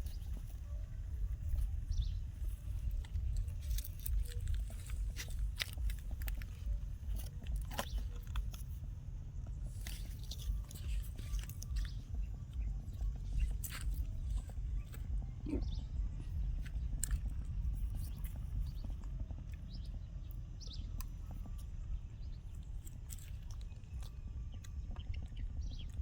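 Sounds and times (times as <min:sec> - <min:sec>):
animal chewing and crunching food: 0:00.0 - 0:26.0
low rumble: 0:00.0 - 0:26.0.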